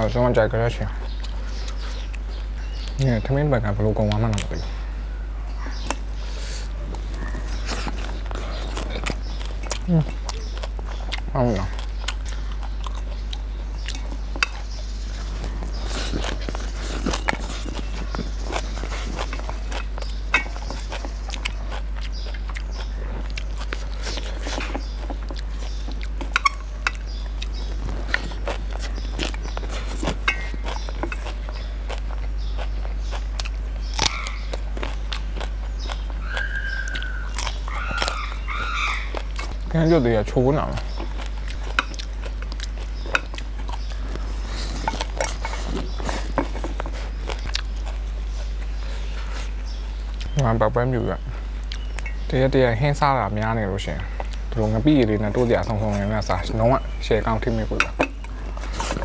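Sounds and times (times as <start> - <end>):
biting and chewing: 0.0 - 59.0
steady low hum: 0.0 - 59.0.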